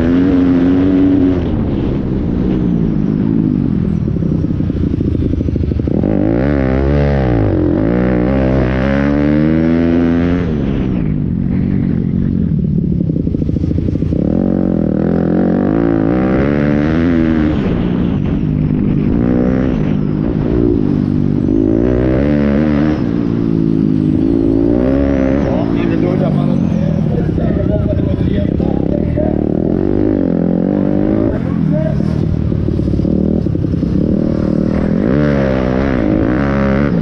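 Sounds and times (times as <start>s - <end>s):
pit bike engine revving: 0.0s - 37.0s.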